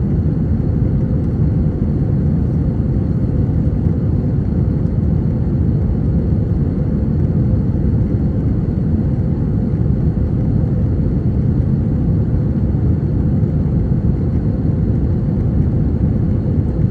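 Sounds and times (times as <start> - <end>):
airplane cabin rumble: 0.0 - 16.9.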